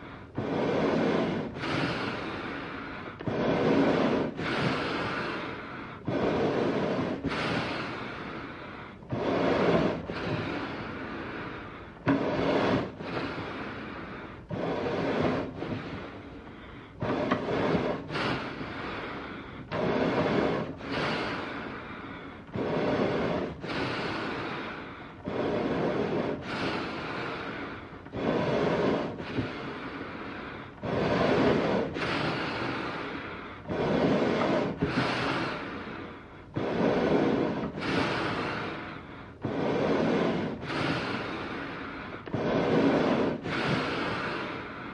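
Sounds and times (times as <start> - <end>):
animal breathing: 0.0 - 44.9.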